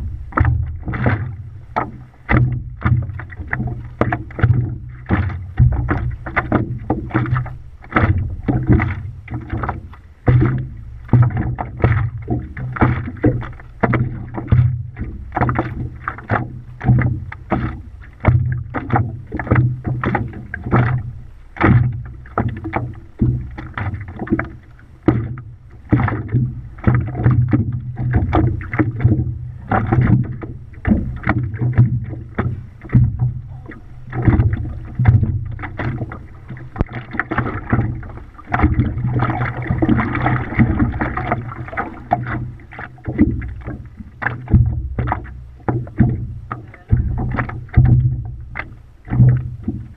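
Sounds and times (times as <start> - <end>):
constant low rumble: 0.0 - 49.9
paddle strokes splashing: 0.0 - 49.9
water slapping against board: 0.0 - 49.9.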